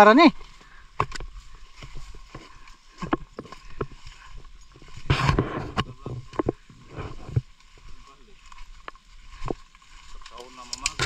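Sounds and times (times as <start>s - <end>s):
footsteps on rough trail: 0.0s - 11.0s.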